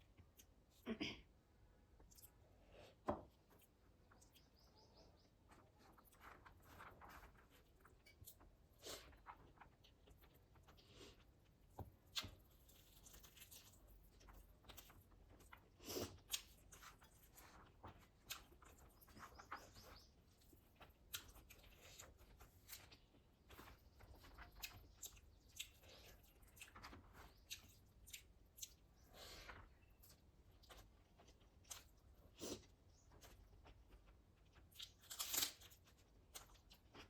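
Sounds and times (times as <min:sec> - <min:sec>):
person chewing food: 0:05.3 - 0:37.0.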